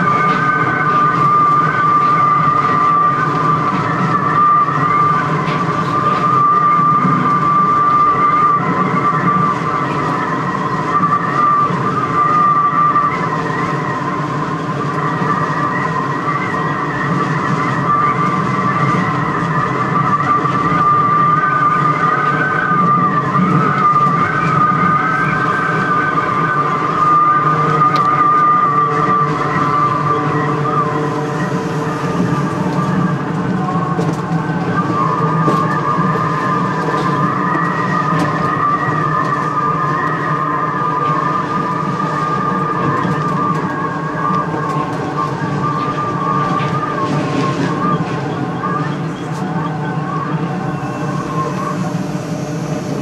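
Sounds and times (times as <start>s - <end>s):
monorail high whine: 0.0s - 53.0s.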